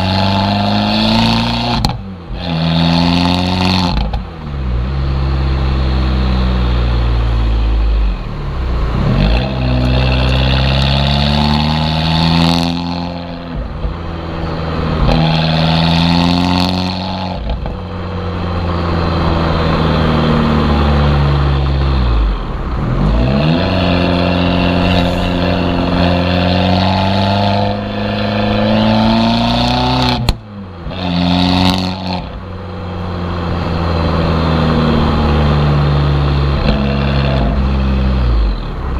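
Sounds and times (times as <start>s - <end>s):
exhaust crack: 0.0s - 5.0s, 6.5s - 38.9s
car engine accelerating: 0.0s - 38.9s.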